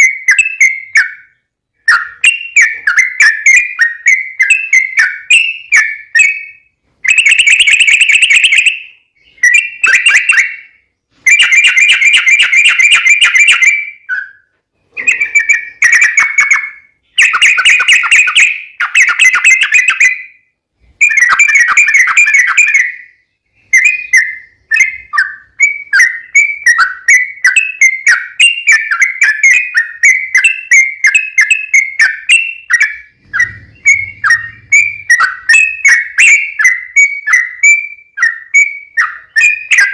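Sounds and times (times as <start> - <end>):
bird chirping: 0.0 - 39.9
bird singing rolling song: 0.0 - 39.9.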